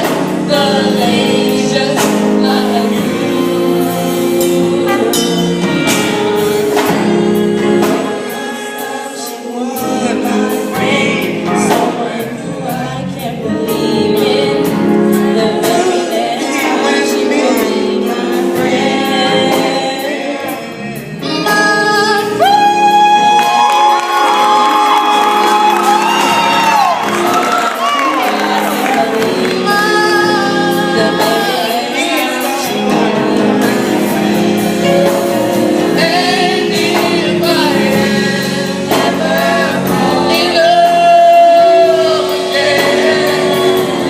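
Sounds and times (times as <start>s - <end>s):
vocal group singing harmony: 0.0s - 44.0s.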